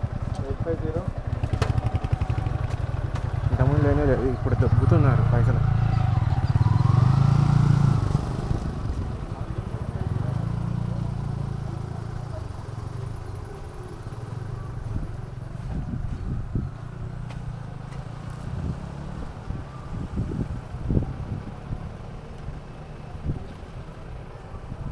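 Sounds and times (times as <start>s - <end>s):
motorcycle engine humming: 0.0s - 24.9s.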